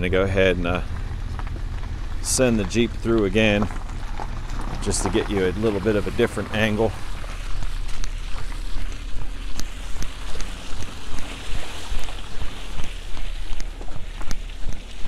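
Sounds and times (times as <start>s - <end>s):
tyres rolling through mud and slush: 0.0s - 15.0s
wind rumbling on microphone: 0.0s - 15.0s.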